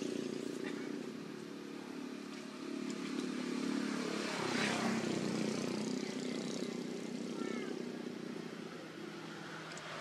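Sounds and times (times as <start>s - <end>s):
motor engine droning: 0.0s - 10.0s.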